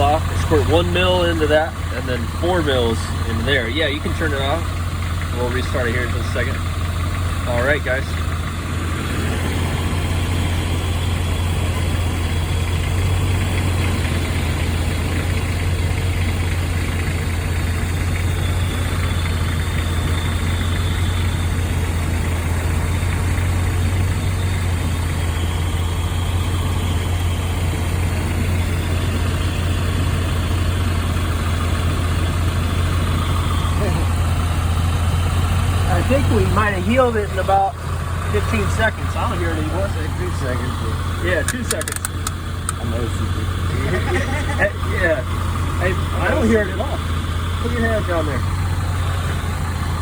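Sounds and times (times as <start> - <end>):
engine lifter tapping: 0.0 - 43.6
truck engine idling: 0.0 - 50.0.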